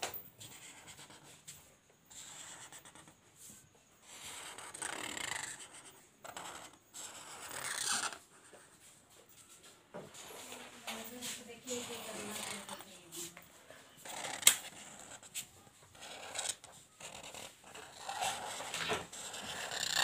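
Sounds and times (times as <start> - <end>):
marker pen writing on paper: 0.4 - 8.9, 10.1 - 20.0.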